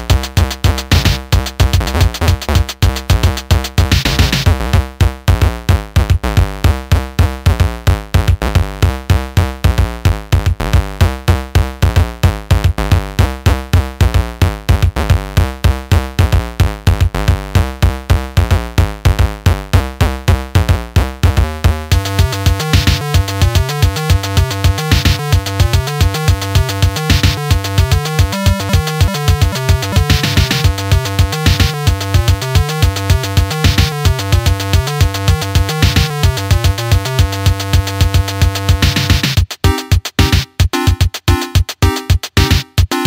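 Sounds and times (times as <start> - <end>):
electronic music with drum machine: 0.0 - 43.0.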